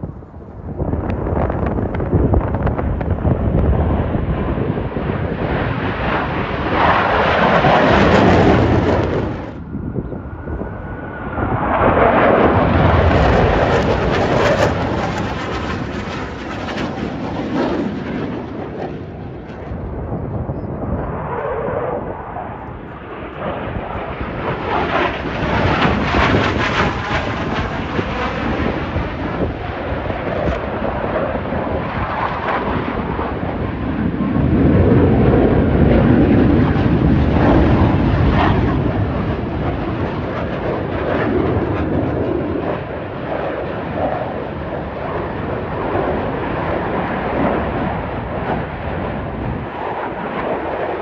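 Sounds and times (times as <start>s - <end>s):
jets passing over: 0.6s - 42.9s.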